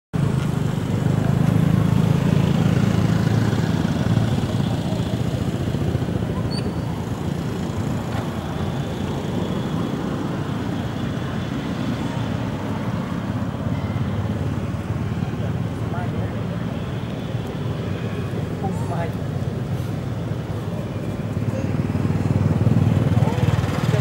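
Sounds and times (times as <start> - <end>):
motor vehicle on road: 0.1 - 24.0.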